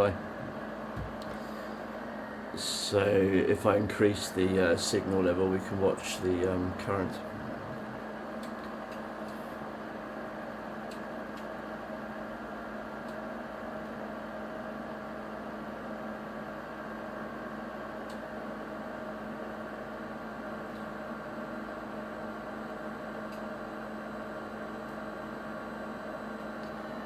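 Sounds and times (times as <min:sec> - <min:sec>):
amplifier electrical hum: 0:00.0 - 0:27.0.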